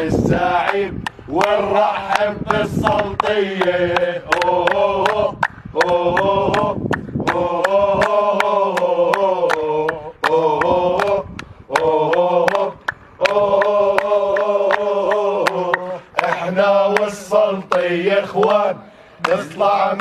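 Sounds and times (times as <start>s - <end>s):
men chanting in unison: 0.0s - 20.0s
rhythmic hand-clapping: 0.1s - 20.0s.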